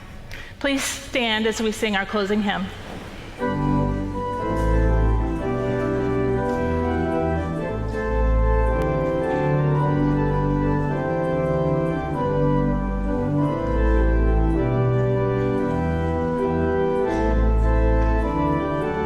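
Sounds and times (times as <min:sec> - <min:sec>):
organ playing a hymn: 0:03.3 - 0:19.0.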